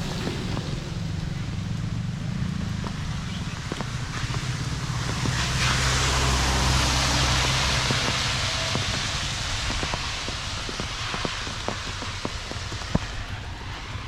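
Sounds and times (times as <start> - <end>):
raindrop ticks: 0.0 - 14.0
tyres hissing on wet road: 0.0 - 14.0
vehicle engine hum: 0.0 - 14.0.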